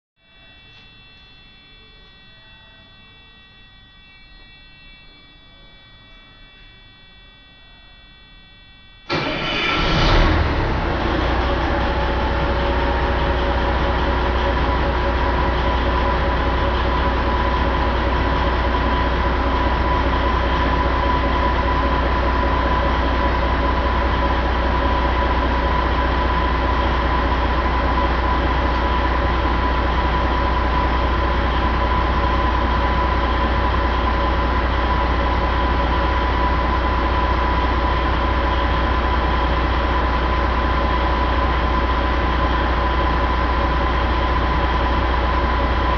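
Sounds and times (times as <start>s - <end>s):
high whine: 0.2s - 45.9s
diesel engine rumbling: 9.1s - 45.9s.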